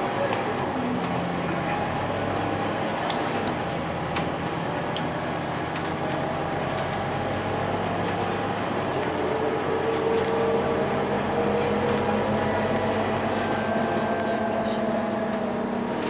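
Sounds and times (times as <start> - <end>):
bus engine and road noise: 0.0 - 16.0
drivetrain whine: 0.5 - 16.0.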